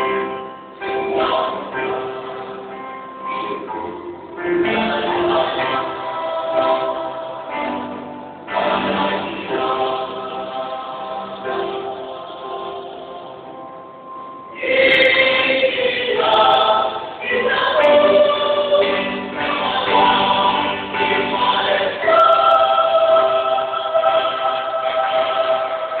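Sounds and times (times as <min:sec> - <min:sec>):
choir singing: 0:00.7 - 0:26.0.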